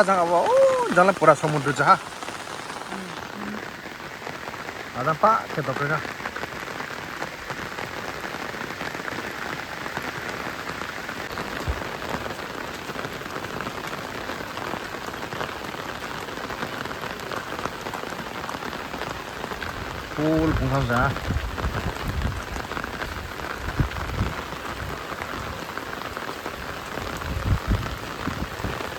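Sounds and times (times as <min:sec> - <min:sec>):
heavy rain falling: 0:00.0 - 0:28.9.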